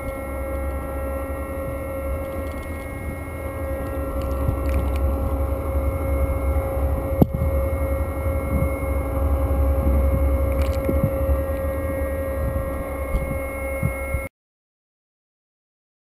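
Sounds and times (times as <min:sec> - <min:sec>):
constant hum: 0:00.0 - 0:14.3
underwater machinery rumble: 0:00.0 - 0:14.3.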